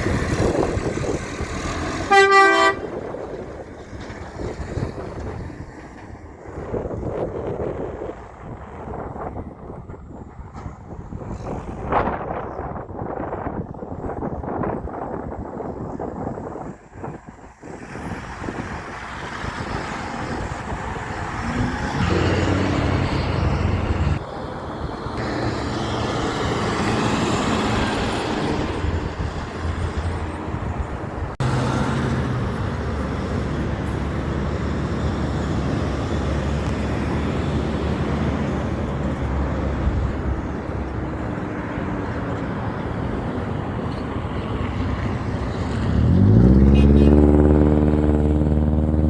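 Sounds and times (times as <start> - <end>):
trucks driving past: 0.0 - 49.0.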